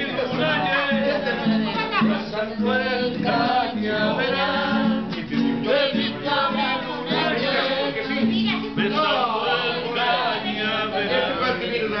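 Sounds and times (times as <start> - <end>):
men singing together: 0.0 - 12.0
strummed acoustic guitar: 0.0 - 12.0.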